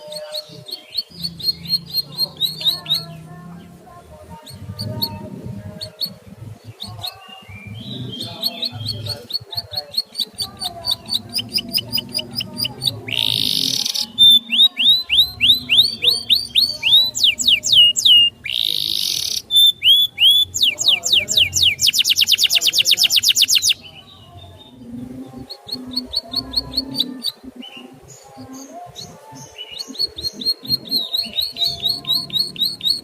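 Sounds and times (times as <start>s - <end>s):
harsh rasping bird notes: 0.0s - 33.0s
songbird singing: 0.0s - 33.0s.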